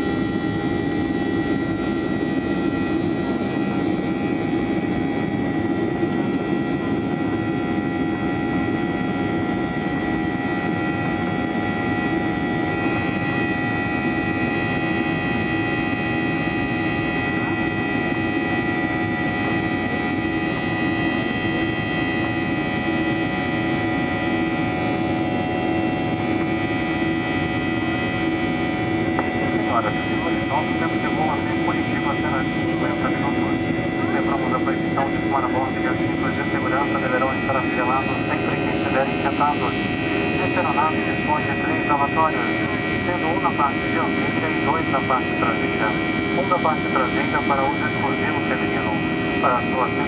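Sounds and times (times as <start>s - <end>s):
airplane cabin engine roar: 0.0s - 50.0s
constant high whine: 0.0s - 50.0s.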